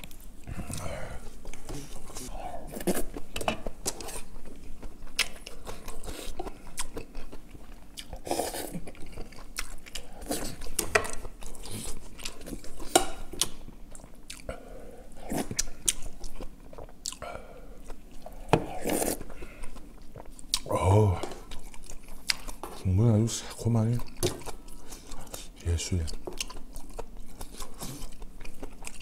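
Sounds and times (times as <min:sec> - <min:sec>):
person chewing and biting: 0:00.0 - 0:14.6, 0:15.2 - 0:22.8, 0:24.0 - 0:29.0.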